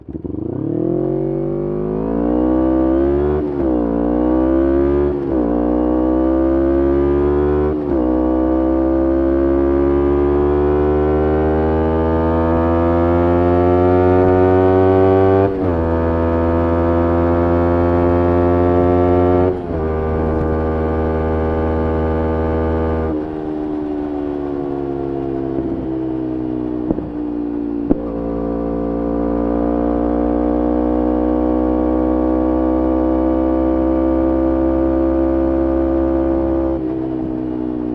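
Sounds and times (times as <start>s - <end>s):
motorcycle accelerating through gears: 0.0s - 37.9s.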